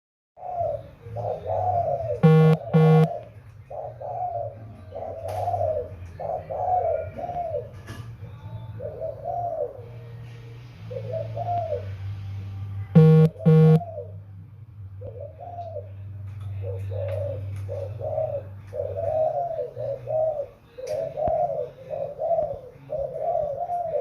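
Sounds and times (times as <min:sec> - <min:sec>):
dove cooing: 0:00.4 - 0:10.2, 0:10.8 - 0:12.1, 0:13.0 - 0:14.2, 0:15.0 - 0:24.0.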